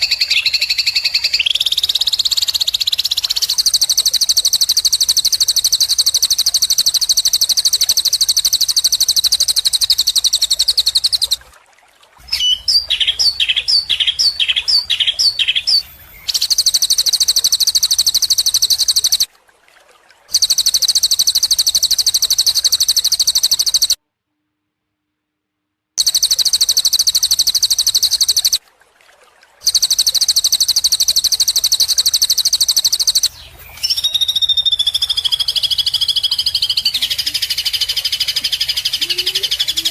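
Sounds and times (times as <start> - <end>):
songbird rapid trills: 0.0 - 11.6, 12.2 - 19.3, 20.3 - 24.0, 26.0 - 39.9.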